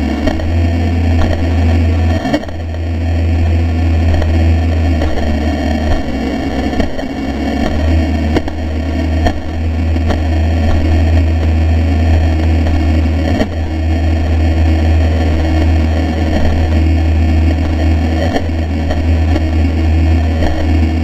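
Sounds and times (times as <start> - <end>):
electric boat motor drone: 0.0 - 21.0.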